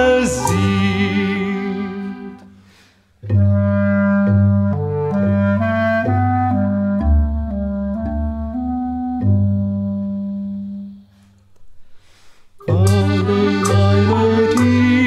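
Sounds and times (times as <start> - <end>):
bass xylophone: 0.0 - 2.6, 3.2 - 11.2, 12.6 - 15.0
accordion: 0.0 - 11.1, 12.6 - 15.0
clarinet: 0.0 - 11.4, 12.6 - 15.0.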